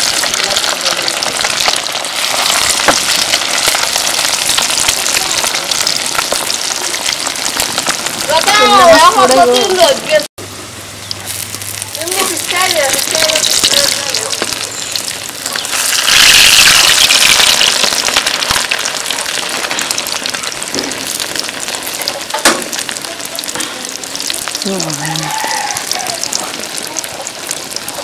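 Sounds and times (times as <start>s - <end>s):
food deep-frying in oil: 0.0s - 28.0s.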